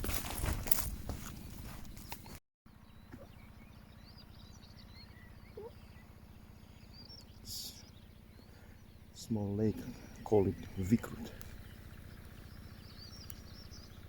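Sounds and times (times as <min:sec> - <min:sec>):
birds chirping: 0:00.0 - 0:14.0
outdoor background noise: 0:00.0 - 0:14.0.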